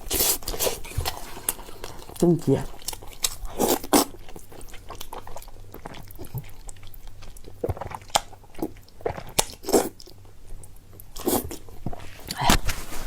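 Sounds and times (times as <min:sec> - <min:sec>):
person chewing and biting food: 0:00.0 - 0:12.7.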